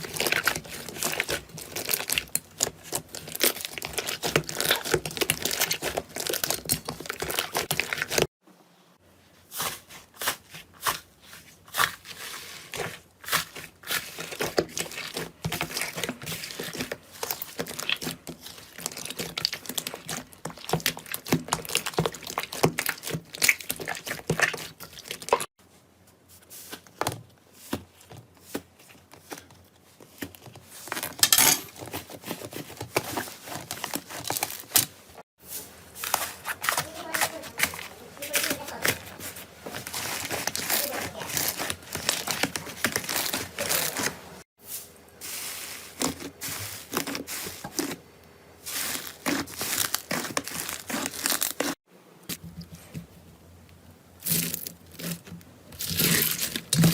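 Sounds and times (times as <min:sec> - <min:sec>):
slime squelching and crackling: 0:00.0 - 0:08.3, 0:09.4 - 0:25.5, 0:31.8 - 0:44.5, 0:45.2 - 0:48.0, 0:48.6 - 0:52.9, 0:54.2 - 0:56.9.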